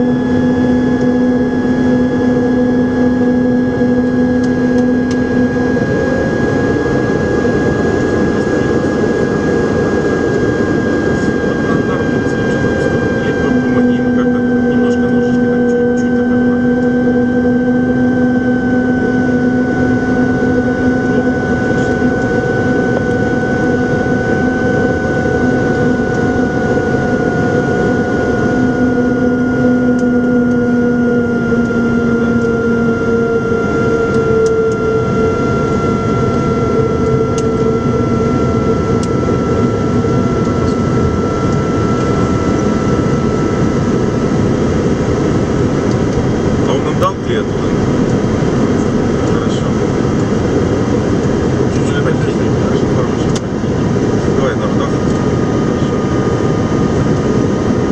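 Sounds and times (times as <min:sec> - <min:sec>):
hum sinking in pitch: 0:00.0 - 0:57.9
jet engines droning: 0:00.0 - 0:57.9.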